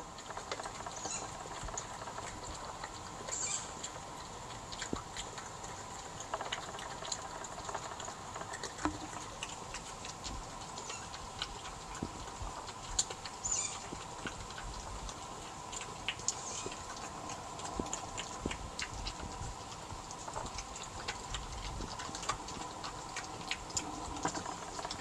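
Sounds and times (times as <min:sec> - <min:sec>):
badgers crunching peanuts: 0:00.0 - 0:25.0
faint steady hum: 0:00.0 - 0:25.0.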